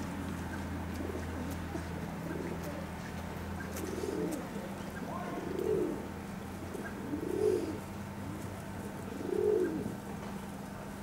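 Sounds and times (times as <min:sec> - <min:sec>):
dove cooing: 0:00.0 - 0:03.0, 0:03.6 - 0:08.4, 0:09.0 - 0:10.0.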